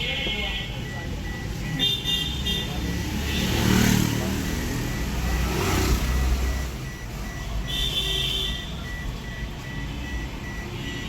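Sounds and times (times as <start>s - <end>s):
rapid steady beeping: 0.0s - 11.0s
vehicle engine rumbling: 0.0s - 11.0s.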